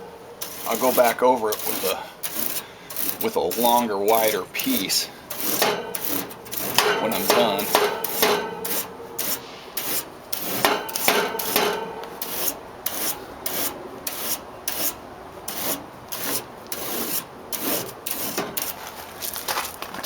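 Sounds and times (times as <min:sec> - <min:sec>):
fin comb scraping metal fins: 0:00.0 - 0:18.9.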